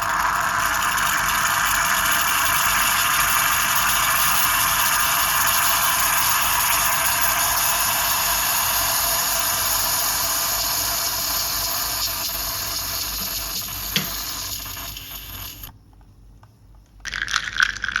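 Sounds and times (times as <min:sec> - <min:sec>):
hissing liquid sound: 0:00.0 - 0:15.7
moka pot hissing and sputtering: 0:00.0 - 0:15.7.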